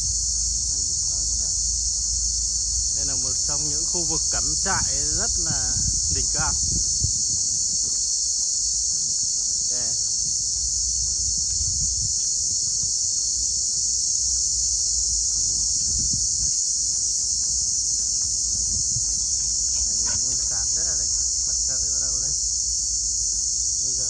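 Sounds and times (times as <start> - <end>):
insect chorus shrilling: 0.0 - 24.0.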